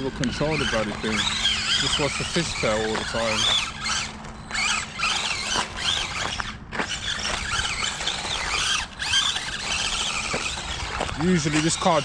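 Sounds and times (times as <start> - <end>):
tyres squealing: 0.0 - 12.0.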